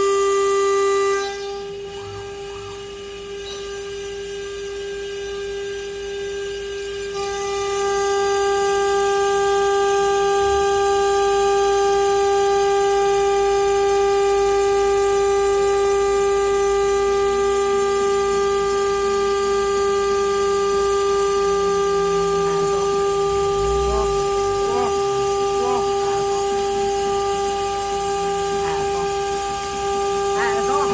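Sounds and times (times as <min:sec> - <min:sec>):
machine spindle whining: 0:00.0 - 0:30.9.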